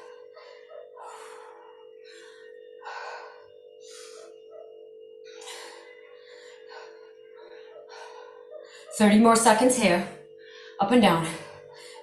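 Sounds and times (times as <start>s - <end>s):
woman breathing hard: 0.0s - 9.0s, 10.2s - 12.0s.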